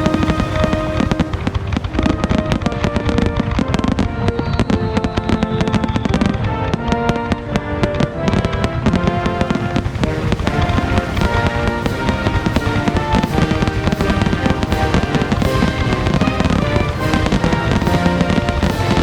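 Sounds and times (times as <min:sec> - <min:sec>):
fireworks bangs and crackles: 0:00.0 - 0:07.5, 0:08.3 - 0:19.0
music with sustained notes: 0:00.0 - 0:19.0.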